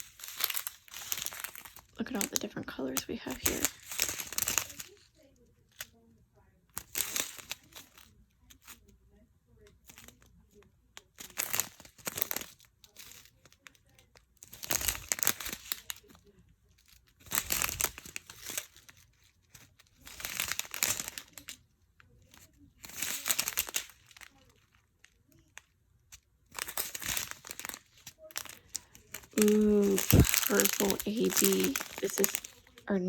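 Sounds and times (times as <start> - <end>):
plastic bags crinkling: 0.0 - 6.0, 6.7 - 9.0, 9.6 - 33.0.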